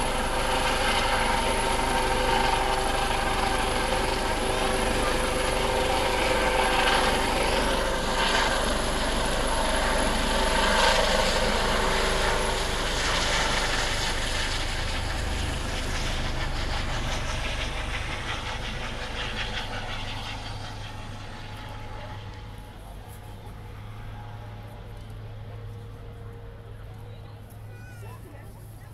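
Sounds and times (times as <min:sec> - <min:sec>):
helicopter flying past: 0:00.0 - 0:28.9.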